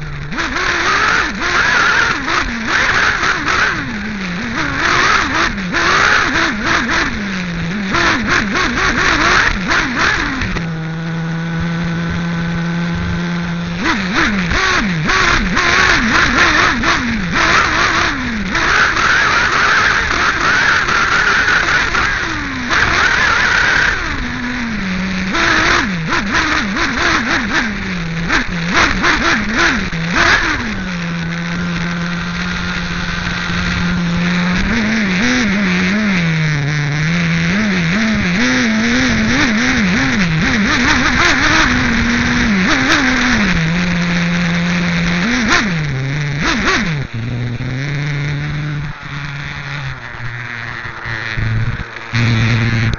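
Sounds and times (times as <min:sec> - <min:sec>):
model buggy engine revving: 0:00.0 - 0:52.9.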